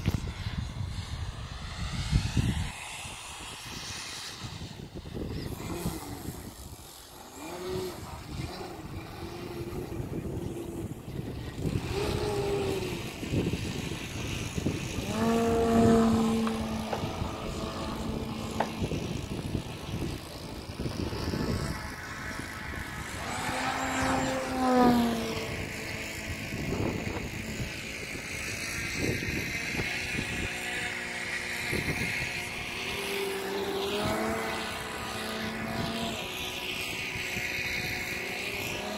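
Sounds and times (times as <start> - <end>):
model plane propeller drone: 0.0 - 38.9.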